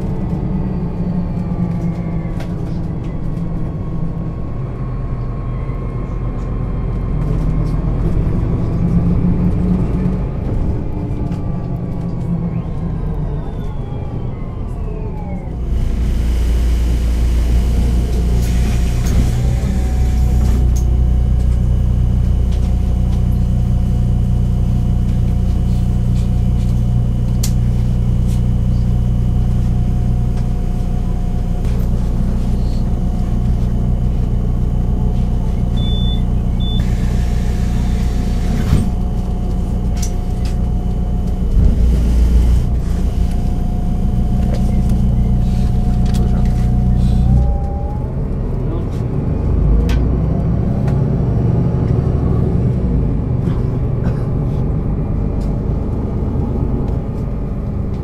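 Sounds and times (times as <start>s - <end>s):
bus engine humming: 0.0s - 58.0s.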